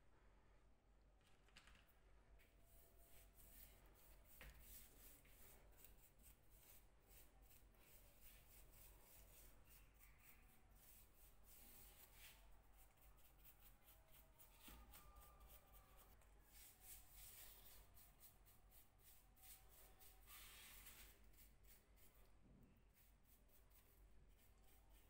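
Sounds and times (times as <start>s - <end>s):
paintbrush strokes on wood: 2.5s - 25.0s.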